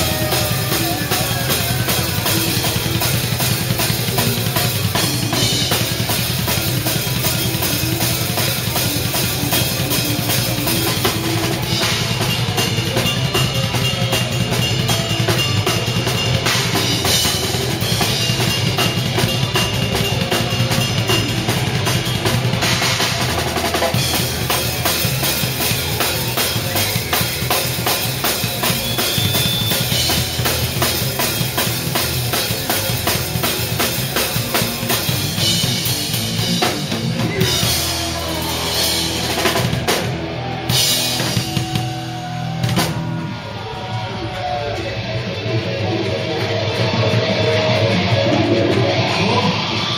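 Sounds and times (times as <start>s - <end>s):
drum kit played fast: 0.0s - 49.9s
live band music: 0.0s - 49.9s.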